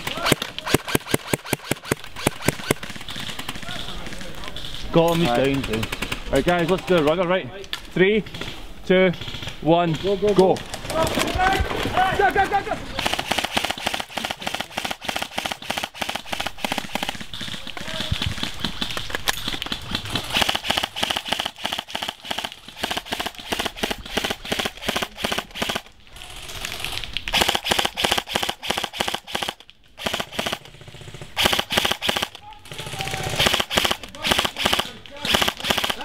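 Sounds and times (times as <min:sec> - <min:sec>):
airsoft rifles firing: 0:00.0 - 0:07.2, 0:08.3 - 0:25.9, 0:26.8 - 0:36.0.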